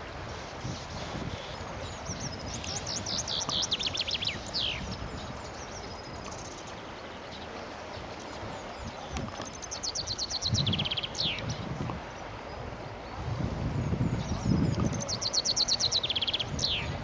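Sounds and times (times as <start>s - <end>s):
songbird singing: 0.0s - 17.0s
wind rumble on microphone: 0.0s - 17.0s.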